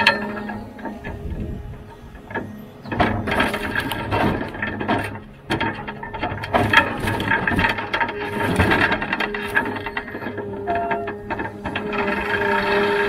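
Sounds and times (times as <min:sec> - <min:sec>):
logs knocking together: 0:00.0 - 0:12.0
machine hum: 0:00.0 - 0:13.0.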